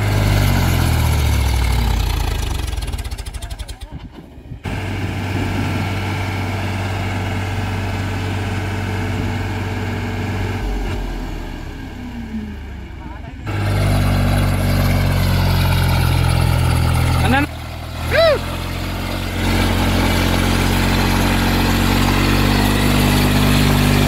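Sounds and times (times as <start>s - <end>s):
tractor engine under heavy load: 0.0s - 24.0s.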